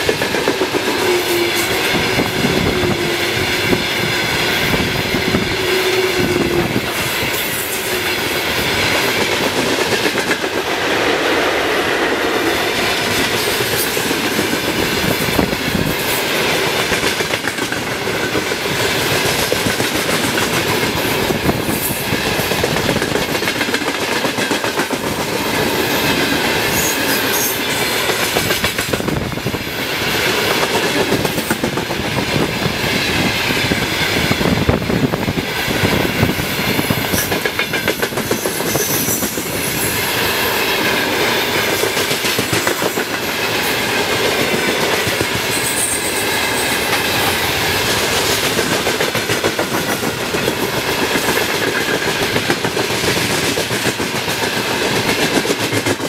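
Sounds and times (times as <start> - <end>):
train wheels clattering: 0.0 - 11.3, 12.5 - 56.0
rumble of train cars: 0.0 - 56.0.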